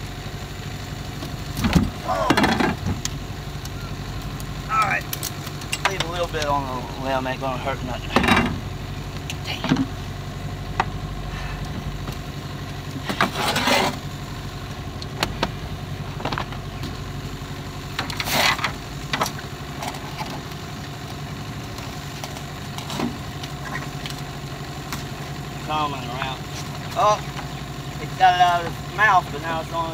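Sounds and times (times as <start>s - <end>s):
boat motor idling: 0.0s - 29.9s.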